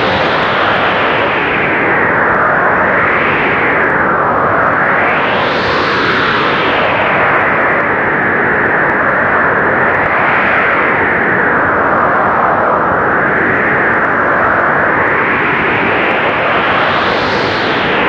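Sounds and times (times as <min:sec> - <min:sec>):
howling blizzard wind: 0:00.0 - 0:18.0.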